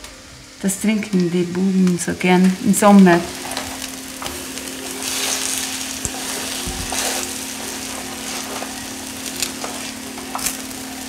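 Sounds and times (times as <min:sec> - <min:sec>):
battered flowers frying in fat: 0:00.0 - 0:11.0.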